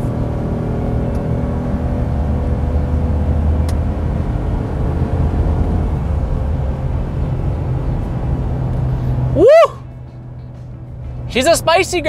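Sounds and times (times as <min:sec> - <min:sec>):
road noise: 0:00.0 - 0:12.0
truck engine droning: 0:00.0 - 0:12.0.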